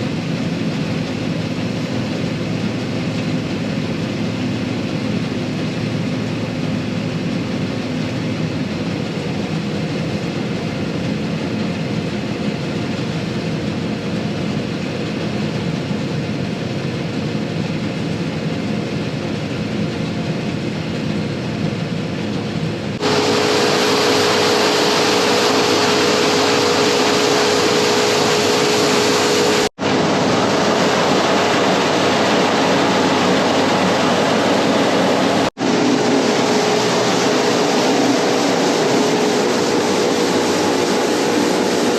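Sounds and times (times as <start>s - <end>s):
combine harvester running: 0.0s - 41.9s
steady mechanical whine: 0.0s - 41.9s.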